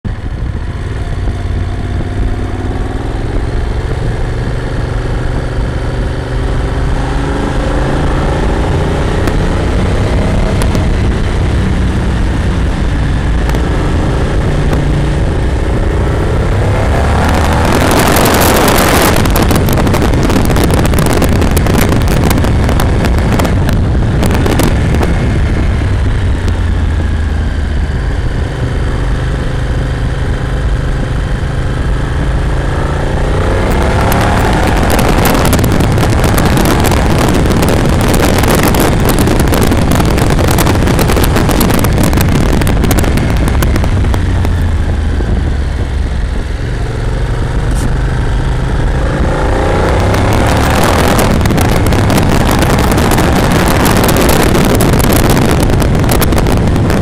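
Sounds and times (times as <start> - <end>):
motorcycle engine revving: 0.0 - 57.0
wind buffeting microphone: 0.0 - 57.0.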